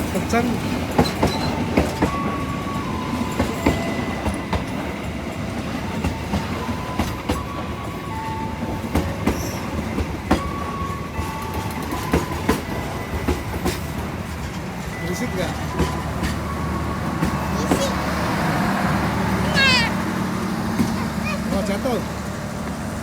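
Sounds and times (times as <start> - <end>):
train rumbling past: 0.0 - 23.0
wheels clacking over rail joints: 0.0 - 23.0.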